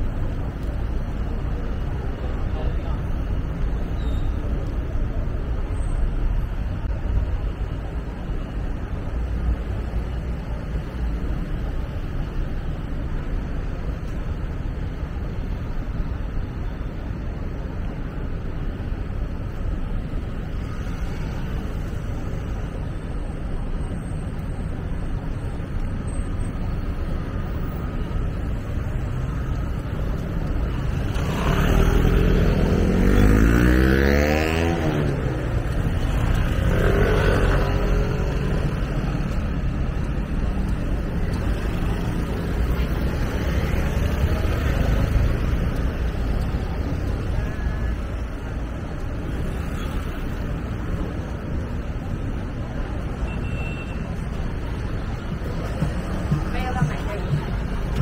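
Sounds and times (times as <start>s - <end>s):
low rumble of traffic: 0.0s - 58.0s.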